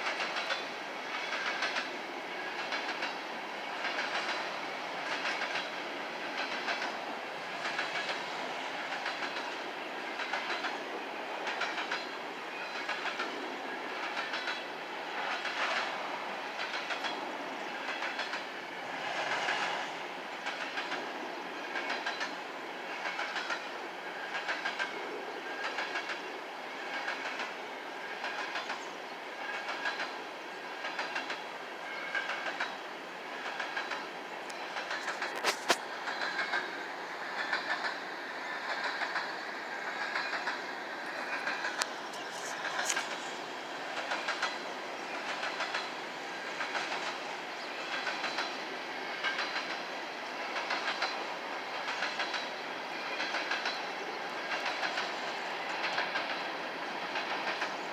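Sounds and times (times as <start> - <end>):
train wheels clickety-clack: 0.0 - 57.9.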